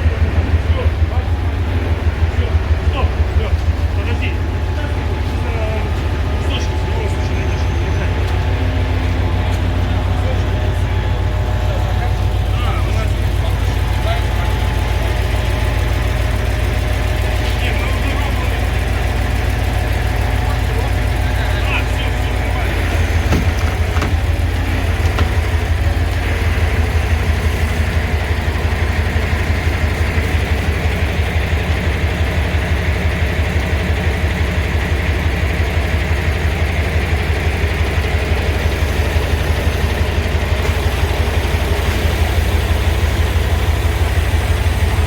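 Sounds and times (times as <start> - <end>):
truck diesel engine idling: 0.0 - 45.0.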